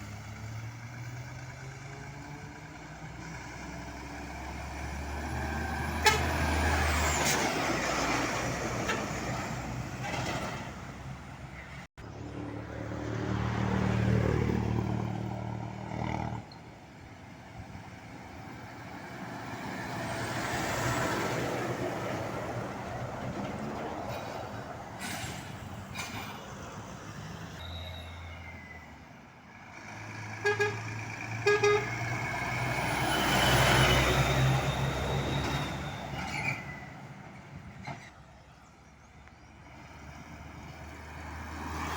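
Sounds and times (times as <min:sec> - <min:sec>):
heavy trucks passing: 0:00.0 - 0:41.9.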